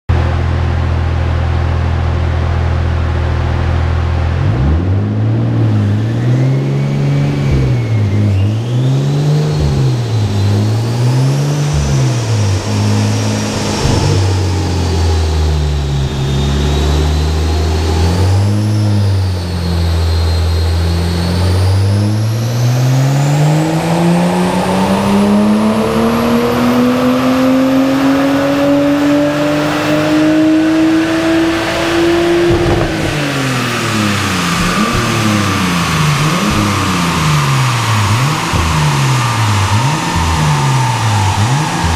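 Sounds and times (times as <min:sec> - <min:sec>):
faint high turbo whine: 0:00.2 - 0:27.5, 0:28.5 - 0:41.9
car engine revving: 0:00.2 - 0:41.9.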